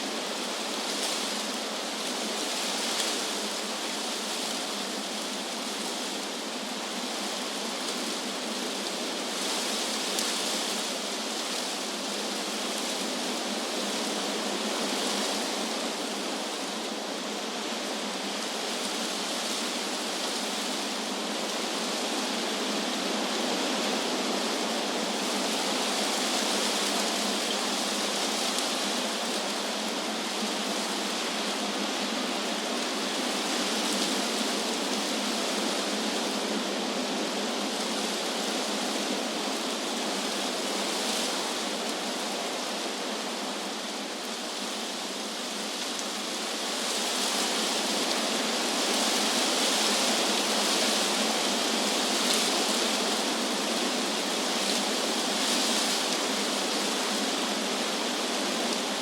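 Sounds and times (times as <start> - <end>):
wind rustling leaves: 0.0 - 59.0.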